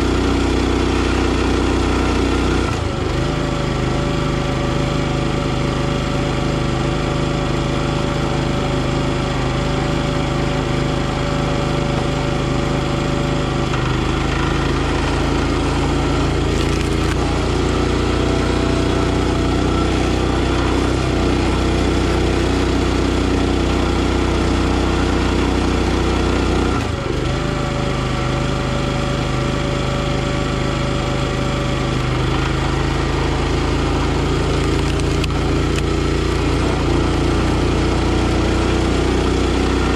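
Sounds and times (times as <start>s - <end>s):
log splitter gas engine running: 0.0s - 39.9s.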